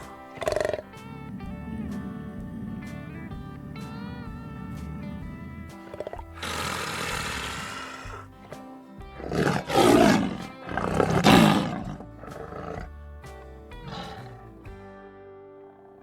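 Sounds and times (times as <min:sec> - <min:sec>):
lion roaring: 0:00.0 - 0:08.4, 0:09.2 - 0:13.0, 0:13.7 - 0:14.6
lion grunts: 0:00.0 - 0:08.6, 0:09.2 - 0:14.7.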